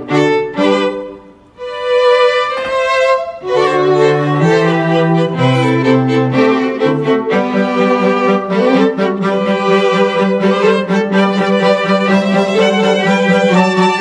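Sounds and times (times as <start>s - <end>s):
violin and cello music: 0.0s - 14.0s.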